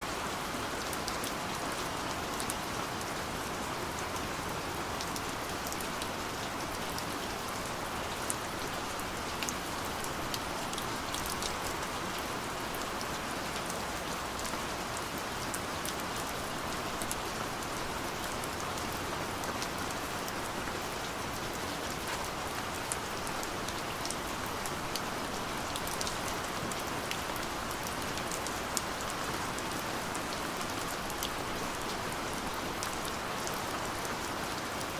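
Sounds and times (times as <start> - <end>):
steady rain hiss: 0.0 - 34.9
raindrops ticking on a surface: 0.1 - 34.9.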